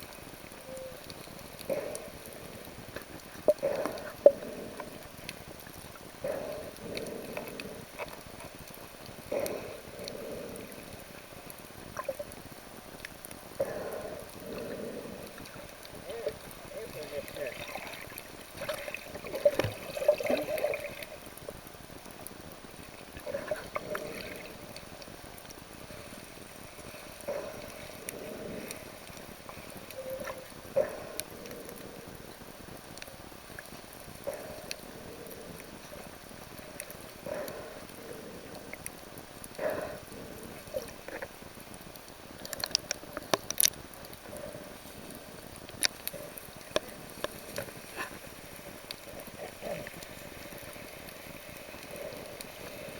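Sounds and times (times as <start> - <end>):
sea water sloshing and gurgling: 0.0 - 52.9.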